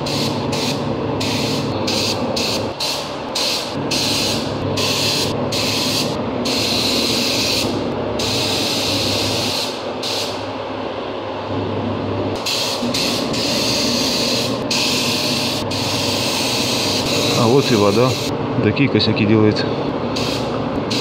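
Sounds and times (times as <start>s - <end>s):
spray gun hissing in bursts: 0.0s - 10.4s, 12.4s - 18.3s, 20.1s - 21.0s.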